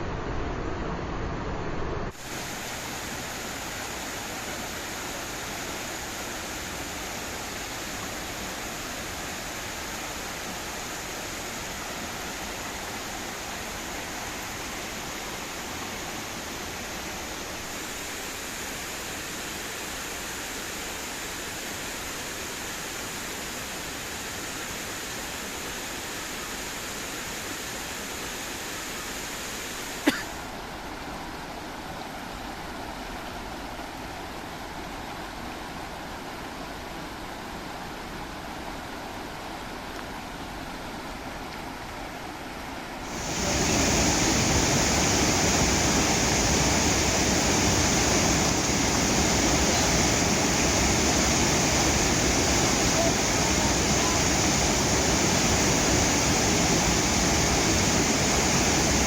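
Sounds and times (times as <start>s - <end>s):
river water rushing: 2.1s - 59.0s.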